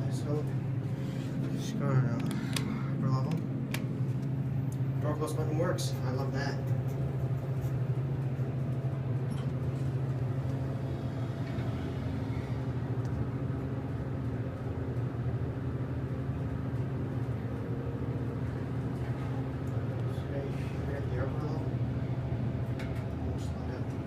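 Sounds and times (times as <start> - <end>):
elevator drive humming: 0.0 - 24.0.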